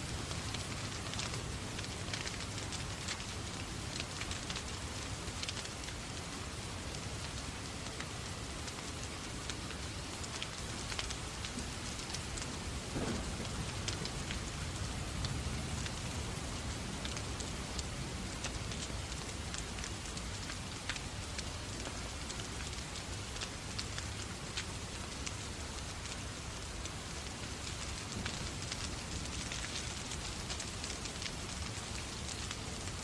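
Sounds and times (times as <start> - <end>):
fireplace crackling: 0.0 - 33.0
steady rain: 0.0 - 33.0.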